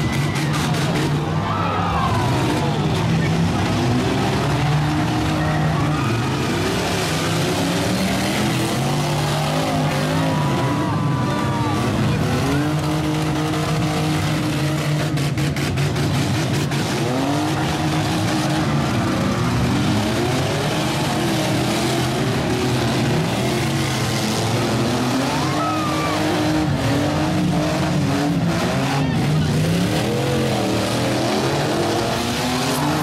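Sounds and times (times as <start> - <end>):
engines revving together: 2.0 - 33.0.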